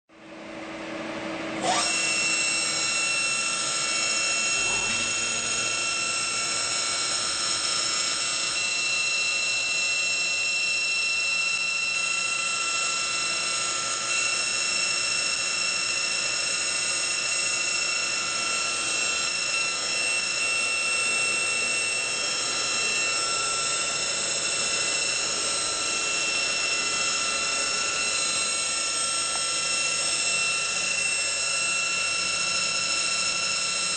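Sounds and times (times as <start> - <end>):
drilling machine whining: 1.5 - 33.9.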